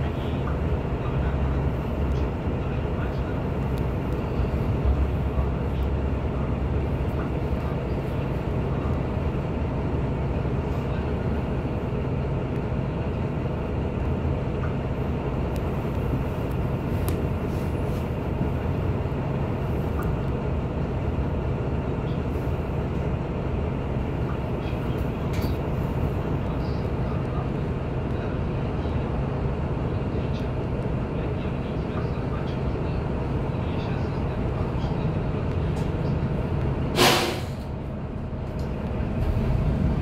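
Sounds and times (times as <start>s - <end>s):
bus diesel engine idling: 0.0s - 40.0s.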